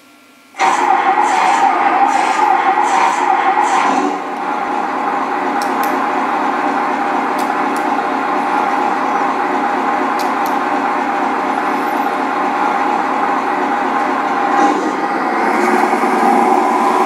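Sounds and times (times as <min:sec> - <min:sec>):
electronic diesel engine idling: 0:00.6 - 0:17.0.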